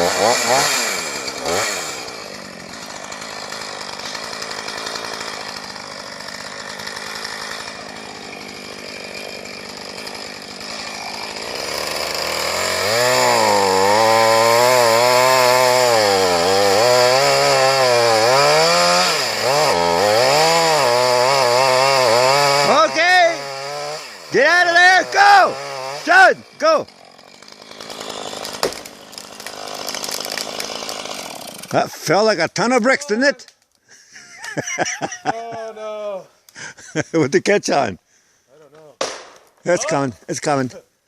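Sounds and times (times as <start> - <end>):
chainsaw cutting into tree: 0.0 - 32.2, 34.2 - 35.4.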